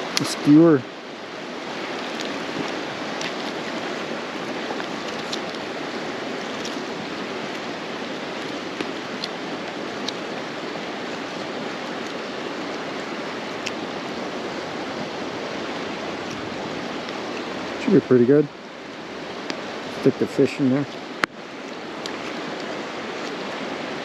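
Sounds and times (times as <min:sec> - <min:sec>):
campfire crackling: 0:00.0 - 0:24.0
steady rushing noise: 0:00.0 - 0:24.0.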